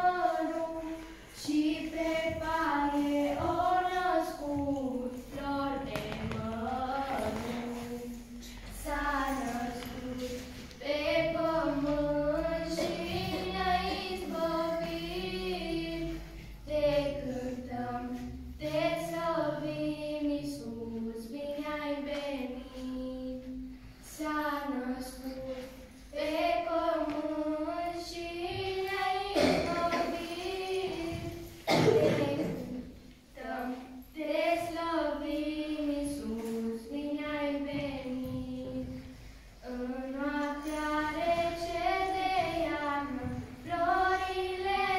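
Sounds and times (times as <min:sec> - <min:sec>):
children singing a carol: 0:00.0 - 0:44.9.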